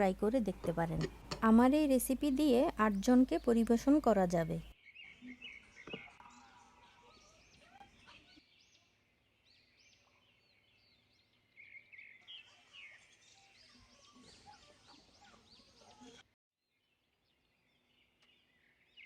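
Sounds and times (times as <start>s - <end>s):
small birds chirping: 2.2s - 16.2s, 16.8s - 19.0s.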